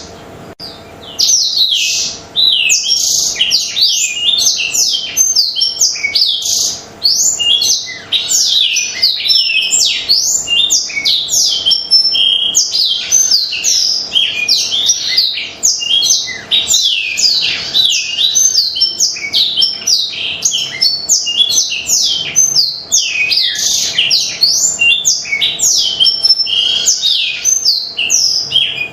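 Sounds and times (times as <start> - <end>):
canary singing chirps and trills: 0.0 - 28.9
faint steady hum: 0.0 - 28.9.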